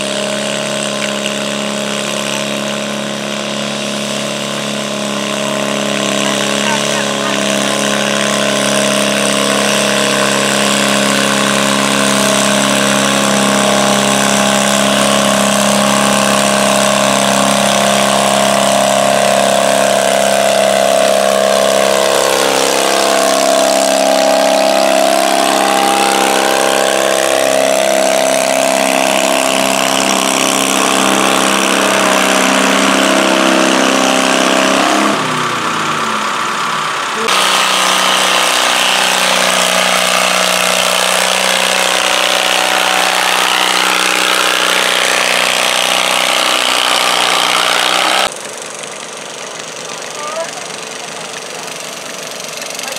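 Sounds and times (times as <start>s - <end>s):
tractor engine running under load: 0.0s - 52.9s.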